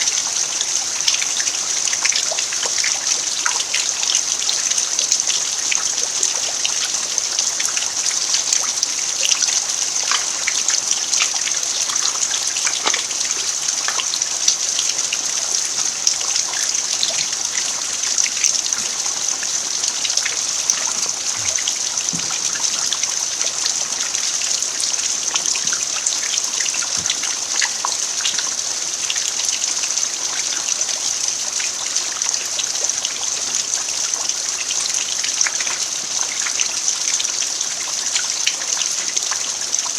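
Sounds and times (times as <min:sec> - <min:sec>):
rain falling on dirt: 0:00.0 - 0:39.9.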